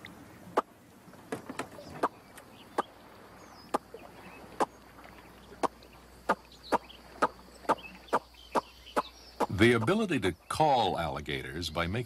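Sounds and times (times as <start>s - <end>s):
faint bird chirps: 1.4s - 12.0s.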